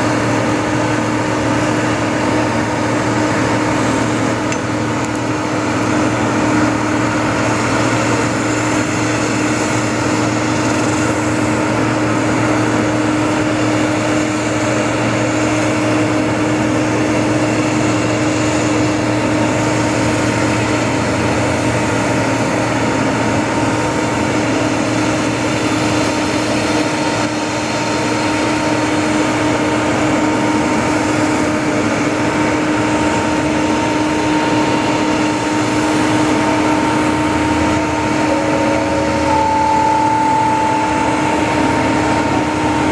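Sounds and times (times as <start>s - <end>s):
airliner machinery whine: 0.0s - 42.9s.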